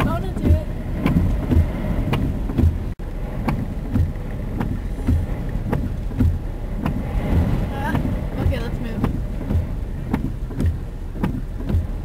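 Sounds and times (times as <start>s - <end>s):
regular knock: 0.0s - 12.0s
road and rain noise in car: 0.0s - 12.0s.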